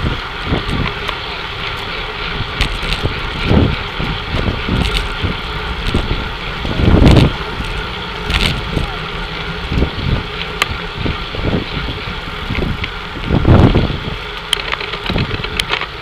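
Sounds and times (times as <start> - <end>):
bicycles rolling: 0.0 - 16.0
wind rumbling on microphone: 0.0 - 16.0.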